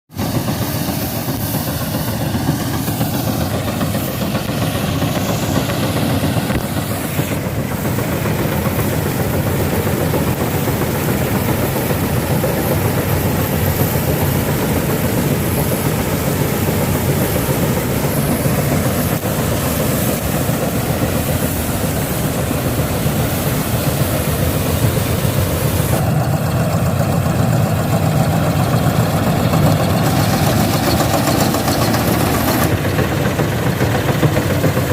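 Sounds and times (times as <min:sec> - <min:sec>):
diesel engine running: 0:00.1 - 0:34.9
threshing machinery clattering: 0:00.2 - 0:34.9.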